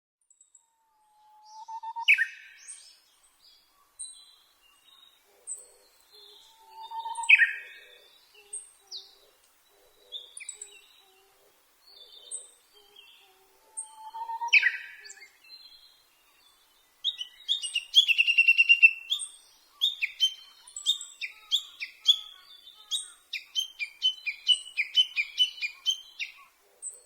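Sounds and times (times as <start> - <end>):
small birds chirping: 0.2 - 27.0
bush warbler song: 0.3 - 27.0.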